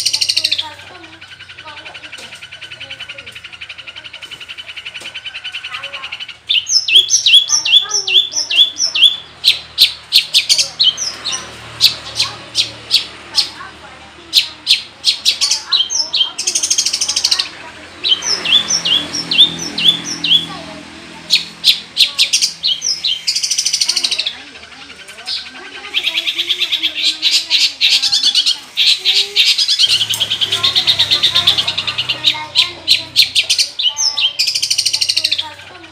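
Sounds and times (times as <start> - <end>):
bird chattering song: 0.0 - 35.9
shrike singing: 0.0 - 35.9.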